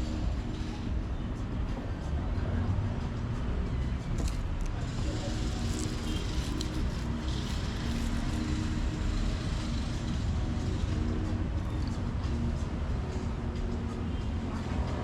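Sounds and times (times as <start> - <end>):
faint motor vehicle engine hum: 0.0 - 15.0.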